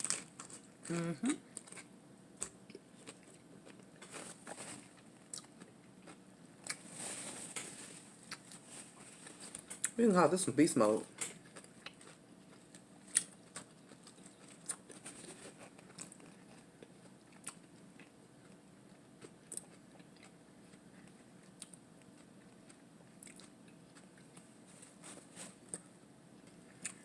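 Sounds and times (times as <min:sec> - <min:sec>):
chewing crunch: 0:00.0 - 0:10.0, 0:11.2 - 0:27.0.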